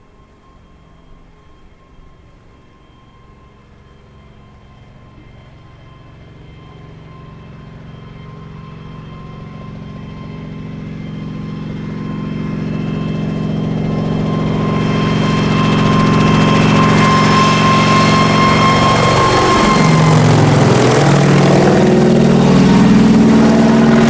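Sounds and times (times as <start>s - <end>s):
helicopter engines and rotors: 0.0s - 24.0s.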